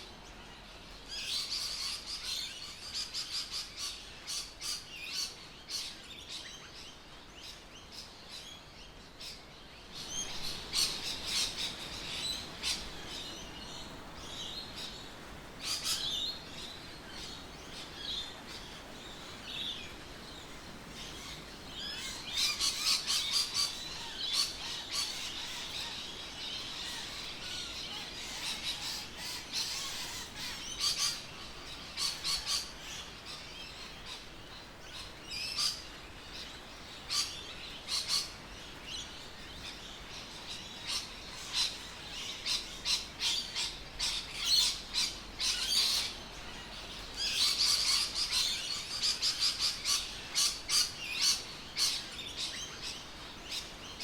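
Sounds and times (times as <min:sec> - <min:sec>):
faint background hiss: 0:00.0 - 0:54.0
birds chirping and calling: 0:00.3 - 0:54.0.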